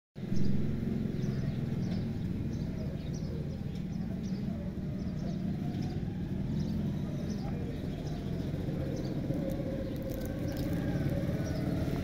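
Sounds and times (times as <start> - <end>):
small birds chirping faintly: 0.2 - 12.0.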